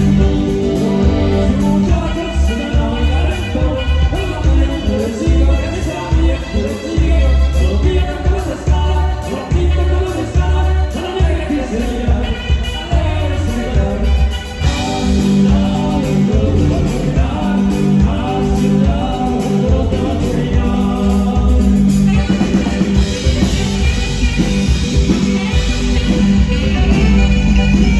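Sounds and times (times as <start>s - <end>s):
bass: 0.0s - 27.9s
drums: 0.0s - 27.9s
saxophone lead: 0.0s - 27.9s.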